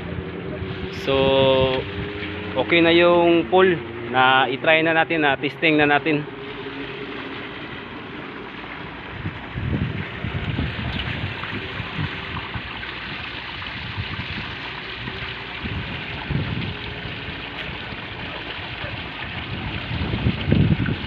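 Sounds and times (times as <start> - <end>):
water splashing into pool: 0.0 - 21.0
wind buffeting microphone: 0.0 - 21.0.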